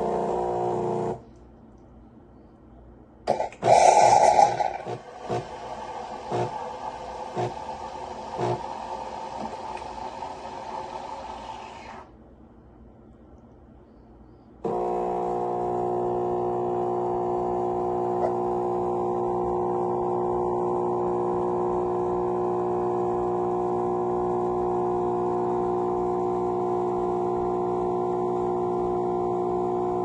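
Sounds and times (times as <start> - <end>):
espresso machine pump humming: 0.0 - 1.2, 3.3 - 12.0, 14.6 - 30.0.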